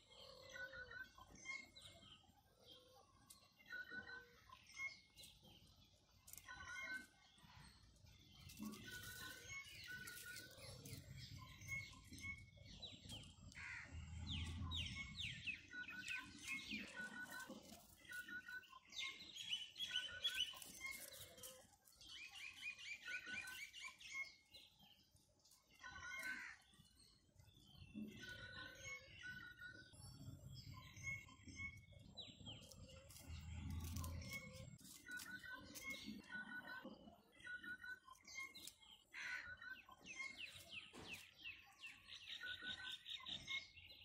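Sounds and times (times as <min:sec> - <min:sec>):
small birds chirping and singing: 0:00.0 - 0:44.0.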